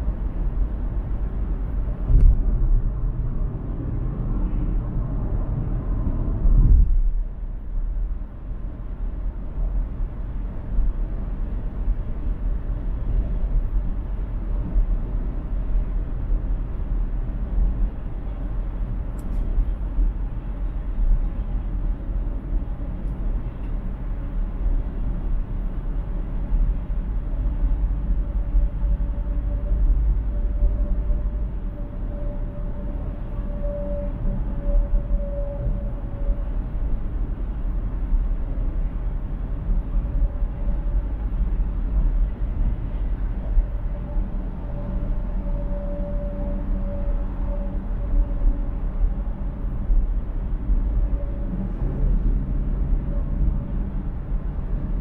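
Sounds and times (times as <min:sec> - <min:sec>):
tyre and wind road rumble: 0:00.0 - 0:55.0.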